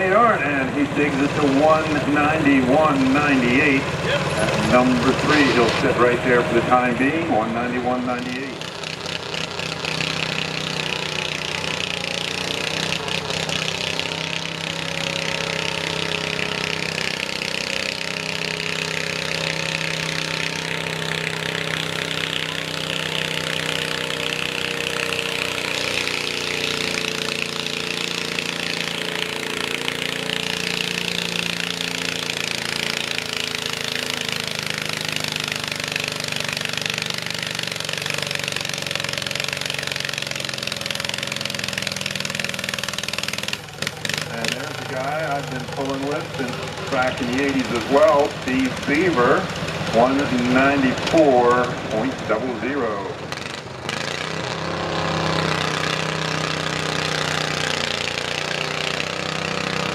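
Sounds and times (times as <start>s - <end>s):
garden tractor engine under load: 0.0s - 59.9s.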